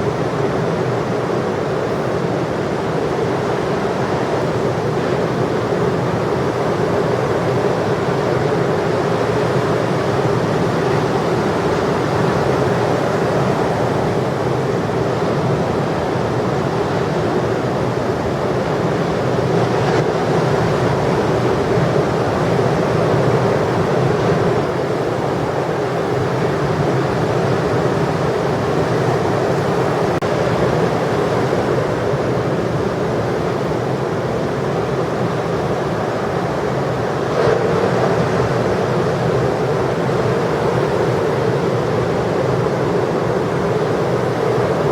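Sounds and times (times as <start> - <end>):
heavy ocean surf: 0.0 - 44.9.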